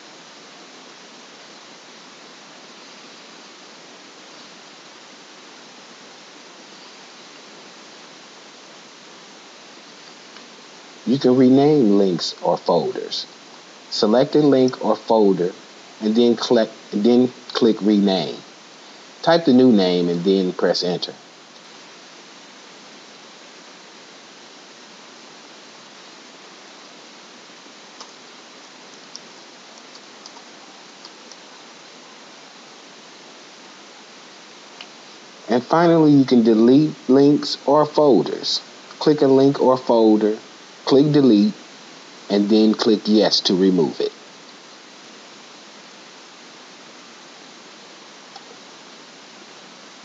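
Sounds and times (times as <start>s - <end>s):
background hiss: 0.0s - 50.0s.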